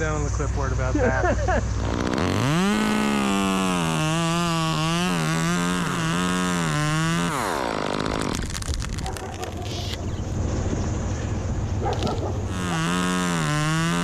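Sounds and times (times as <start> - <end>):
chainsaw cutting at full throttle: 0.9 - 10.0, 11.8 - 14.0.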